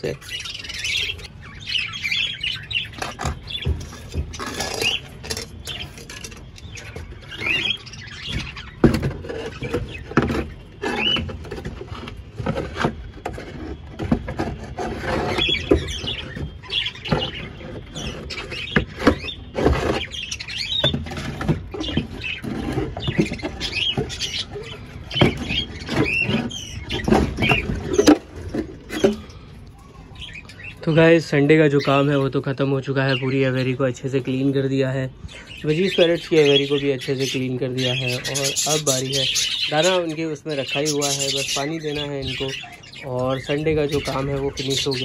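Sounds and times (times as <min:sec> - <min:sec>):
budgerigars chirping: 0:00.0 - 0:13.7, 0:14.4 - 0:45.0
scraping and scratching: 0:00.0 - 0:30.7, 0:35.8 - 0:45.0.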